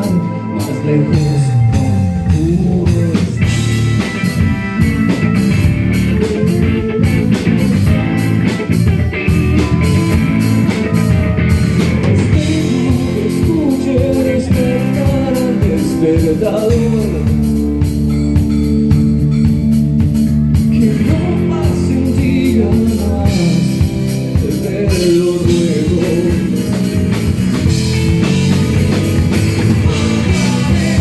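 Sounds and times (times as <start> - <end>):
gliding lead guitar line: 0.0 - 31.0
rock band music: 0.0 - 31.0.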